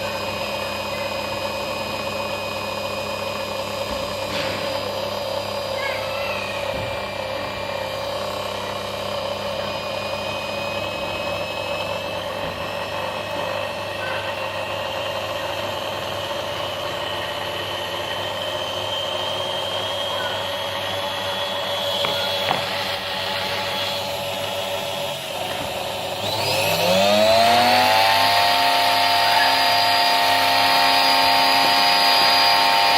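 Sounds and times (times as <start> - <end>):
washing machine motor whine: 0.0 - 32.9.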